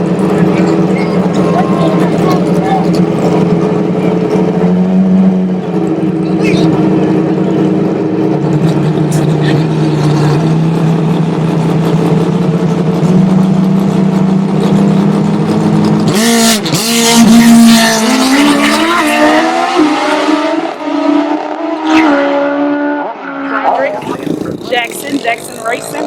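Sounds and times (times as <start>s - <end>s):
drag racing motorcycle engines revving: 0.0s - 26.0s.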